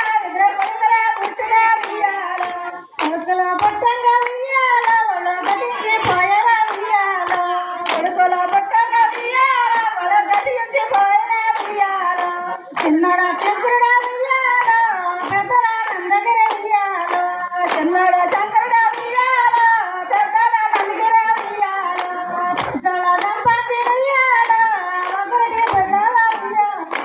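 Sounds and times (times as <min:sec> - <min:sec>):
hand claps: 0:00.0 - 0:27.0
women singing a folk song: 0:00.0 - 0:27.0.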